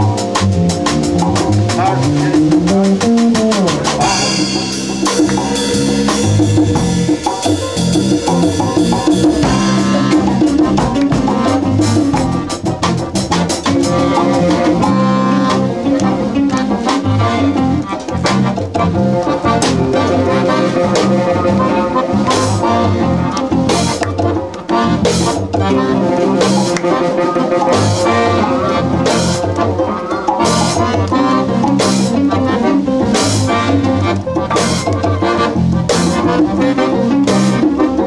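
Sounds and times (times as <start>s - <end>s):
drum kit and percussion beat: 0.0s - 38.0s
live band playing: 0.0s - 38.0s.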